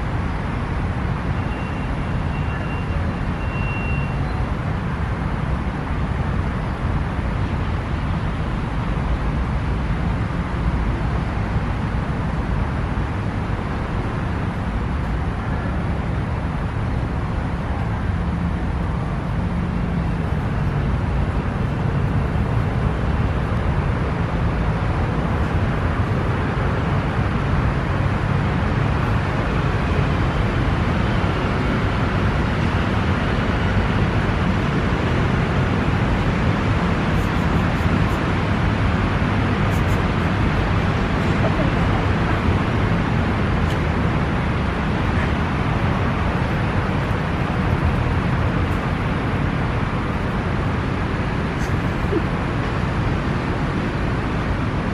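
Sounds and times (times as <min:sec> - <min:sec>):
city road traffic: 0:00.0 - 0:54.9.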